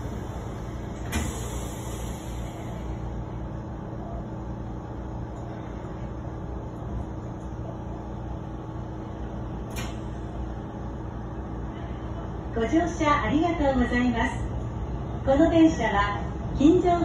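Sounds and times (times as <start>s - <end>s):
train car hum and rumble: 0.0s - 17.0s.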